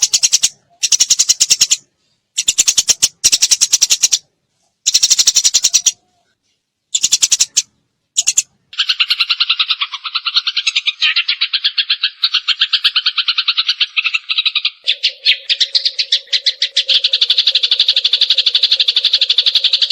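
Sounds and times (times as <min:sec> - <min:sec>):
sparrow chattering: 0:00.0 - 0:06.0, 0:06.9 - 0:19.9.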